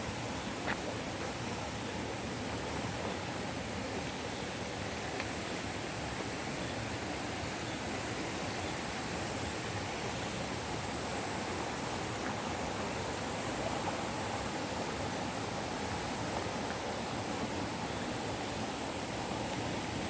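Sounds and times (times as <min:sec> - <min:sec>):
faint high hiss: 0:00.0 - 0:20.0
flowing water rushing: 0:00.0 - 0:20.0.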